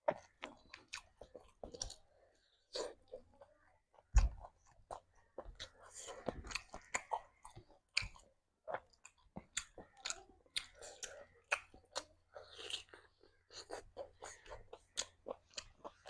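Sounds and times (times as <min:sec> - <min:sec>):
chewing with wet mouth smacks: 0:00.0 - 0:16.0.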